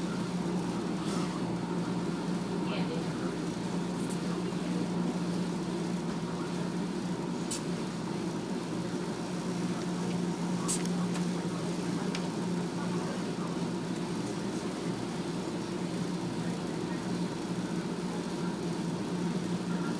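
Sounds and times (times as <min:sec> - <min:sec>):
laundromat dryers humming: 0:00.0 - 0:19.9.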